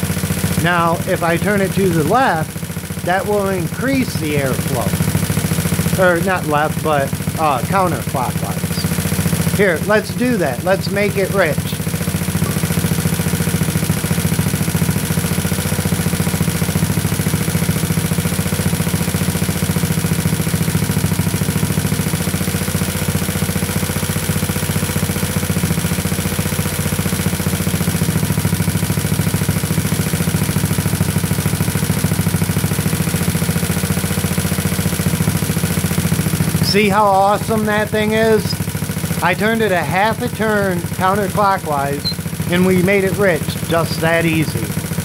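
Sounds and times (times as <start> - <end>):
scooter engine idling: 0.0 - 45.0.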